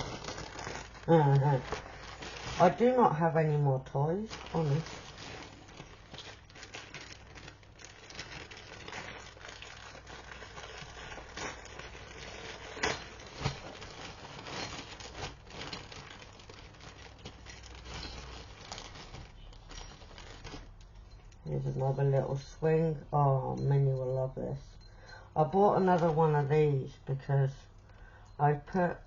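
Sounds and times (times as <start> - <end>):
packaging rustling and crinkling: 0.0 - 22.6, 25.4 - 26.5.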